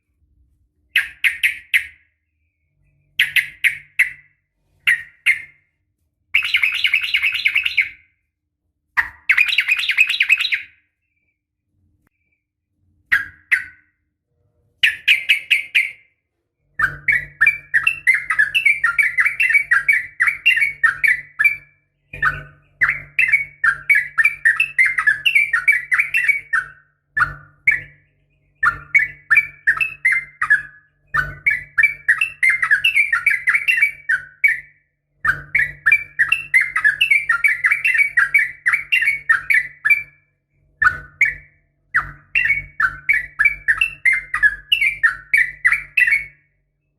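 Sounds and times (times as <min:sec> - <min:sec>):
bird chattering song: 0:00.9 - 0:08.2, 0:09.0 - 0:11.4, 0:12.1 - 0:14.0, 0:14.8 - 0:40.2, 0:40.8 - 0:46.6.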